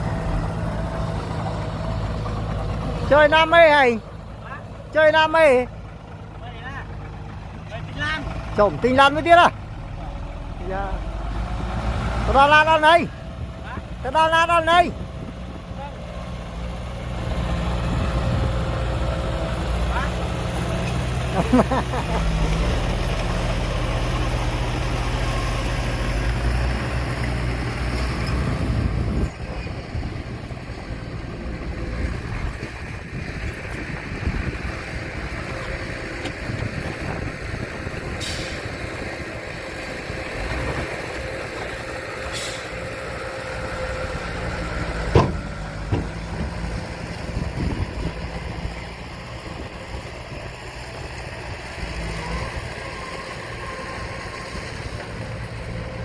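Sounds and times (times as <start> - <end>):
heavy truck engine running: 0.0 - 56.0.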